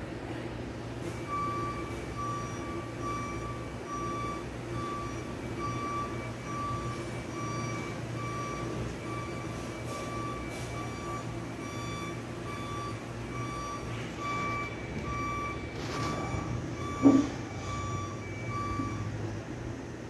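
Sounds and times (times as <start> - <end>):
electronic beeping: 1.2 - 19.1.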